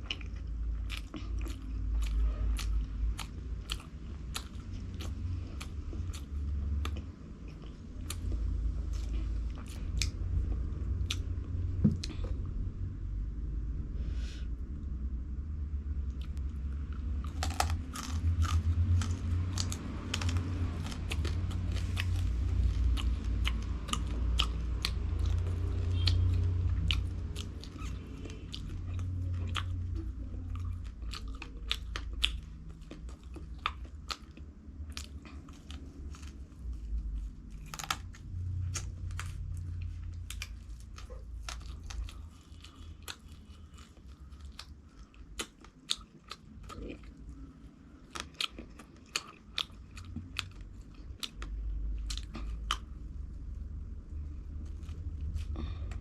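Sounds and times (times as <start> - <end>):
crunchy food chewing: 0.0 - 12.5, 16.1 - 53.1.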